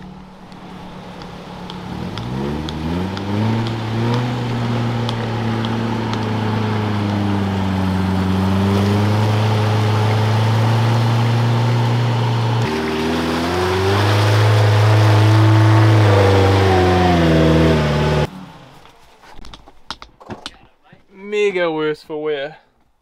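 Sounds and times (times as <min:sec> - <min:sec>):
vehicle engine revving: 0:00.0 - 0:19.1.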